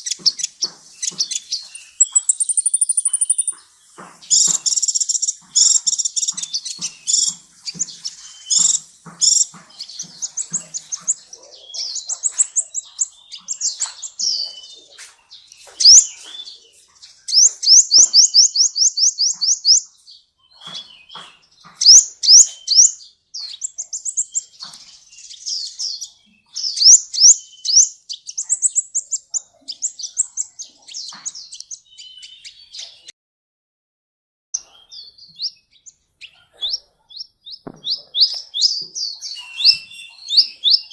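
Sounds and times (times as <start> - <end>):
bird trilling and chirping: 0.0 - 33.1, 34.6 - 40.9.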